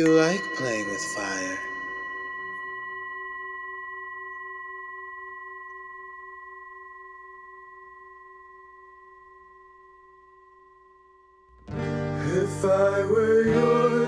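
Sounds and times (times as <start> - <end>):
struck metal bell tone: 0.0 - 14.0.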